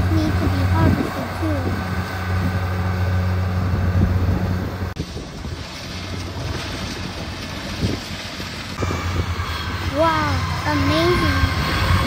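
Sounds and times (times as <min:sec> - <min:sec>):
harvester engine drone: 0:00.0 - 0:12.0
wind on microphone: 0:00.0 - 0:12.0.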